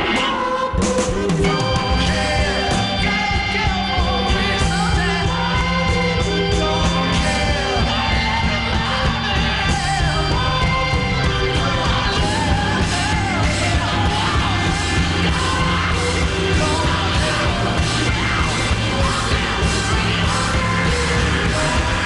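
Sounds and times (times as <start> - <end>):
rock music with singer: 0.0 - 22.0.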